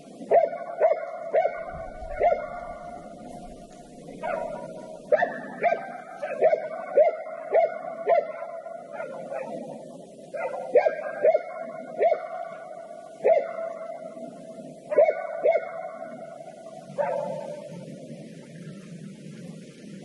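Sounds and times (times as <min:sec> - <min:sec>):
dog barking: 0:00.3 - 0:14.2, 0:14.9 - 0:17.7.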